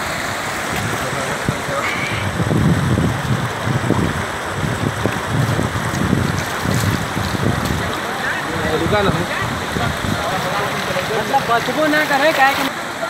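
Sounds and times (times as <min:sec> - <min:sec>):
floodwater rushing: 0:00.0 - 0:13.0
wind gusting on microphone: 0:00.6 - 0:12.0.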